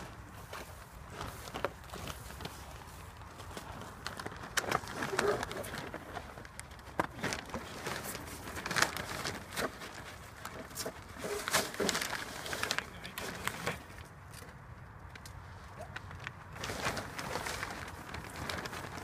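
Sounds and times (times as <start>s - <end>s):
sailcloth rustling and crinkling: 0.0s - 14.6s, 15.4s - 19.0s.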